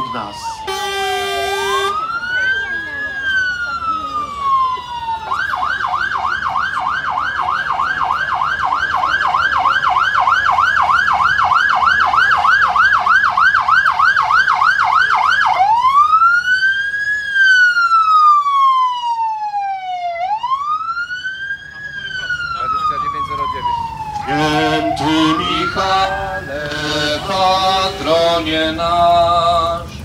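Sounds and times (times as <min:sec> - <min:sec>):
fire engine siren: 0:00.0 - 0:30.0.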